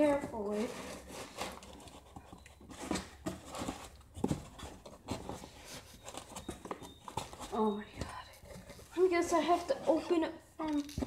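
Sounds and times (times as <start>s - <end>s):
cardboard and foam packing rustling: 0.0s - 11.0s.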